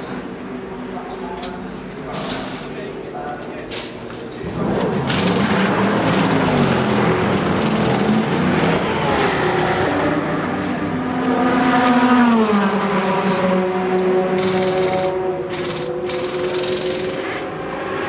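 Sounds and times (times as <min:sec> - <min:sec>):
race car engines running: 0:00.0 - 0:18.0.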